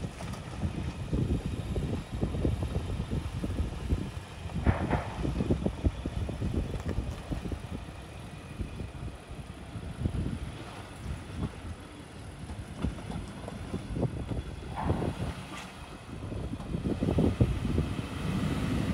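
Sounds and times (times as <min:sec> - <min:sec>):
pickup truck engine running: 0:00.0 - 0:18.9.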